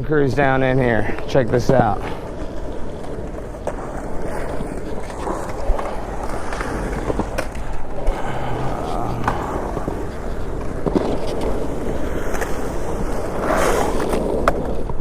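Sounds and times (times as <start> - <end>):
skateboard wheels rumbling on concrete: 0.0 - 15.0
sharp skateboard clicks: 1.2 - 15.0.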